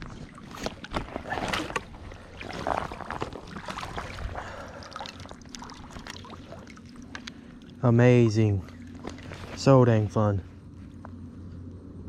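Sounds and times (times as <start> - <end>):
water splashing: 0.0 - 10.2.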